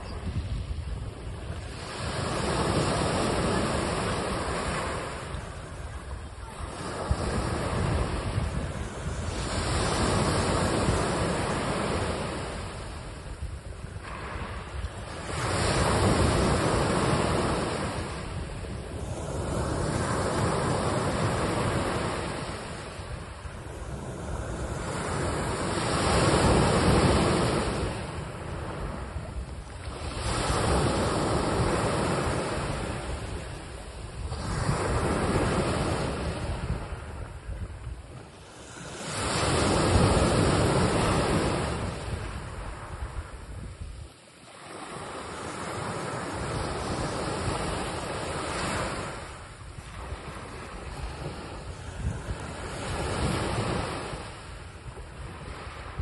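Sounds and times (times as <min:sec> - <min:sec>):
waves washing onto rocky shore: 0:00.0 - 0:56.0.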